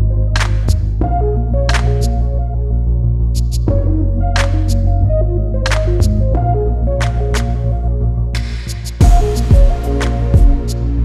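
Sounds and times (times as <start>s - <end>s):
deep steady bass: 0.0s - 11.0s.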